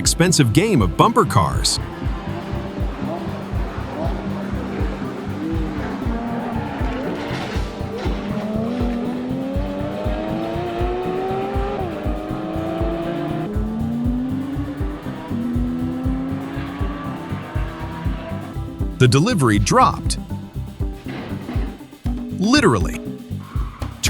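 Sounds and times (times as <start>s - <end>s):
car engine accelerating: 0.0s - 22.5s
background music with steady beat: 0.0s - 24.0s.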